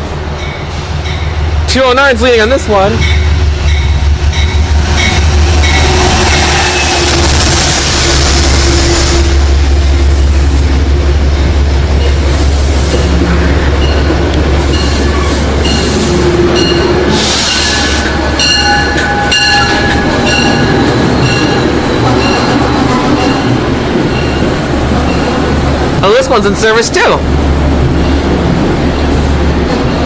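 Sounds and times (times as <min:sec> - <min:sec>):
diesel train engine rumble: 0:00.0 - 0:30.0.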